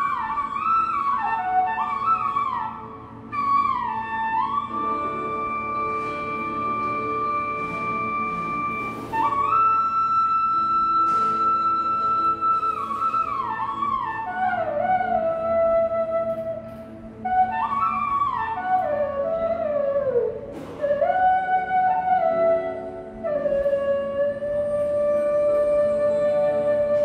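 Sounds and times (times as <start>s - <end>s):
slow solo melody: 0.0s - 27.0s.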